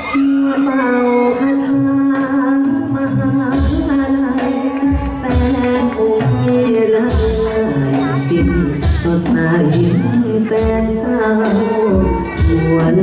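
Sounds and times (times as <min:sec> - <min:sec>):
percussion ensemble: 0:00.0 - 0:13.0.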